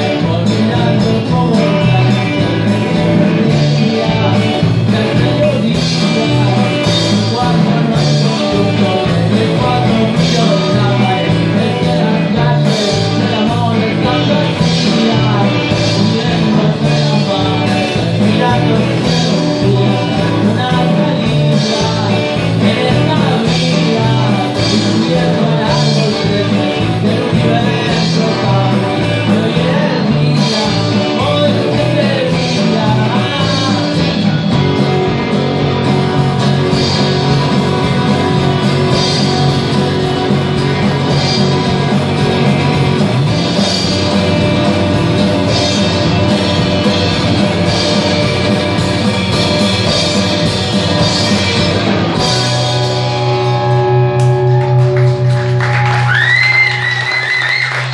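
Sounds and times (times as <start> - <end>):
man singing lead vocal: 0.0 - 54.4
live rock band playing: 0.0 - 57.9.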